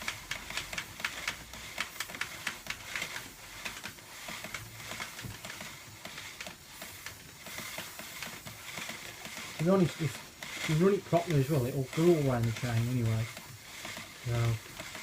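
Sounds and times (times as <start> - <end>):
drive chain clicking over sprocket: 0.0 - 15.0.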